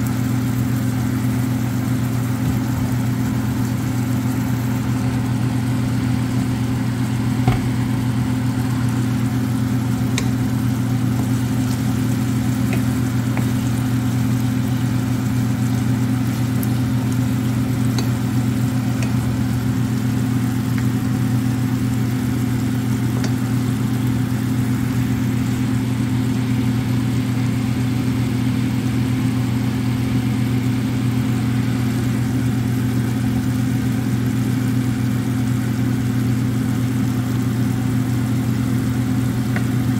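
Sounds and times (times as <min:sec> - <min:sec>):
sauce simmering with faint pops: 0:00.0 - 0:26.4, 0:31.9 - 0:39.9
low mechanical hum: 0:00.0 - 0:39.9.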